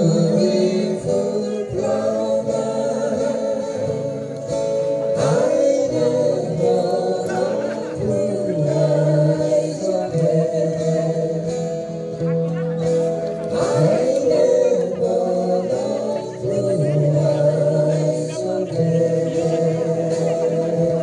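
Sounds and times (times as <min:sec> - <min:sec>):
acoustic guitar: 0:00.0 - 0:21.0
voices singing together: 0:00.0 - 0:21.0.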